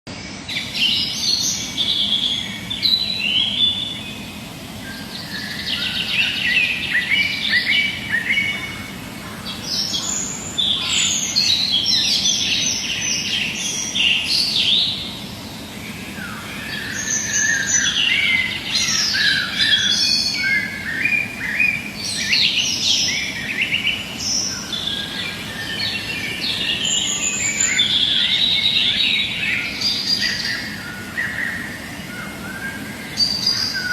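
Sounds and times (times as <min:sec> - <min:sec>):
birds chirping and calling: 0:00.3 - 0:33.9.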